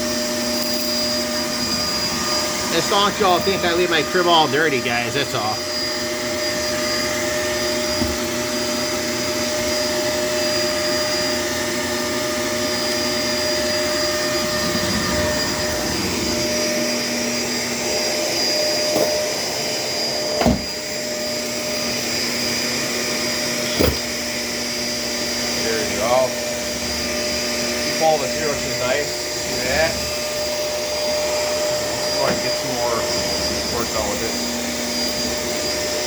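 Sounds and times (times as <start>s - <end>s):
vacuum cleaner whining: 0.0s - 36.0s.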